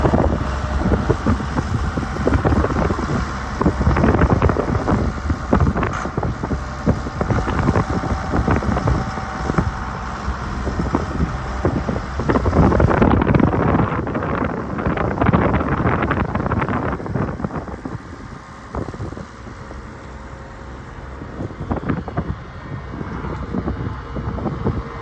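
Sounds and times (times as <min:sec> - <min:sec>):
tractor diesel engine running: 0:00.0 - 0:25.0
wind buffeting microphone: 0:00.0 - 0:25.0.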